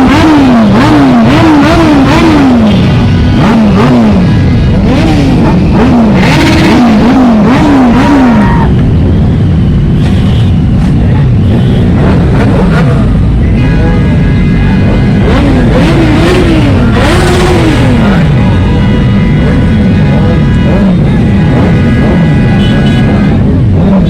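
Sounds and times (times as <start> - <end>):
engines revving in blips: 0.0 - 9.0, 9.8 - 24.0
steady engine noise: 0.0 - 24.0.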